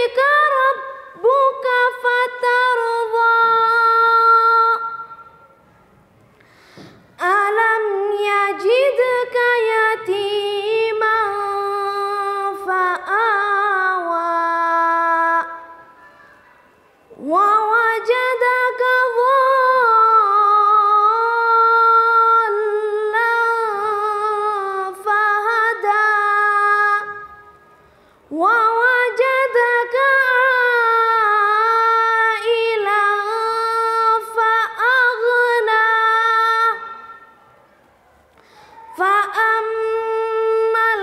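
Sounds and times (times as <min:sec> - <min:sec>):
boy chanting melodic recitation: 0:00.0 - 0:05.3, 0:07.2 - 0:27.5, 0:28.3 - 0:37.4, 0:38.8 - 0:41.0.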